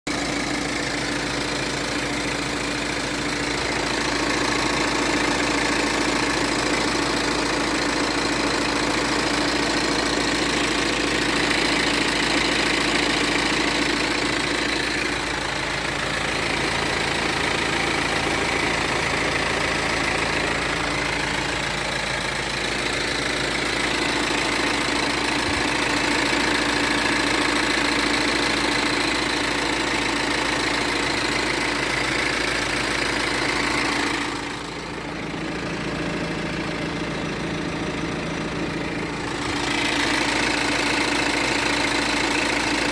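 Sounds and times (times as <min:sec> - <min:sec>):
motor idling: 0:00.1 - 0:42.9.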